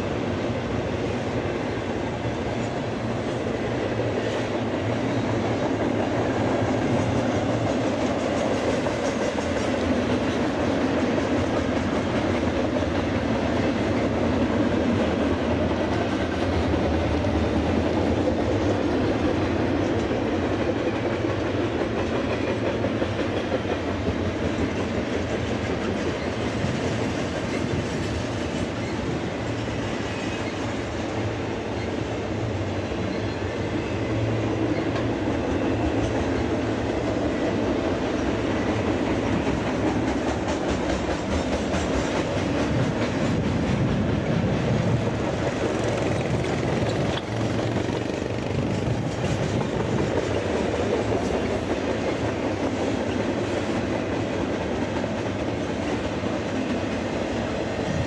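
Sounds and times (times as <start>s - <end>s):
freight train cars rolling past: 0.0s - 58.0s
steel wheels clicking over rails: 0.6s - 32.1s, 34.4s - 58.0s.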